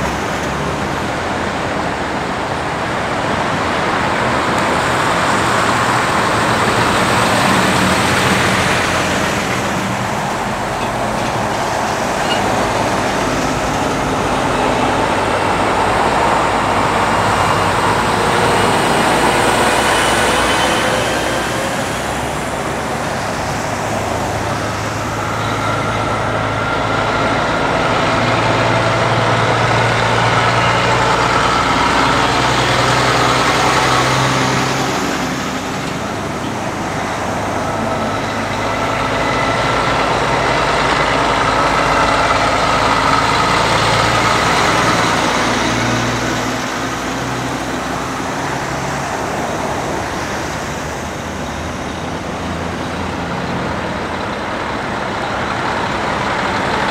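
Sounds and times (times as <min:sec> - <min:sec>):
heavy trucks passing: 0:00.0 - 0:56.9
tyre and road noise: 0:00.0 - 0:56.9.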